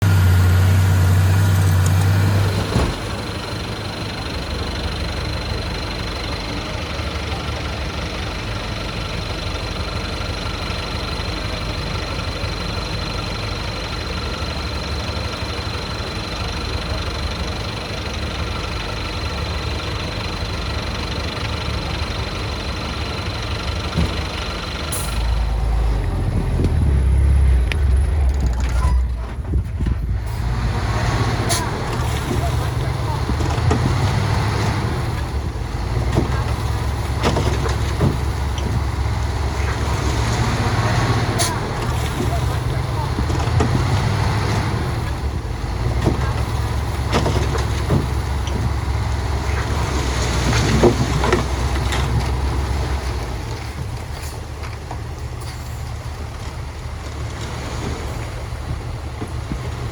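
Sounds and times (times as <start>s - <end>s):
deep loud engine rumble: 0.0s - 59.9s
heavy diesel engines running: 0.0s - 59.9s.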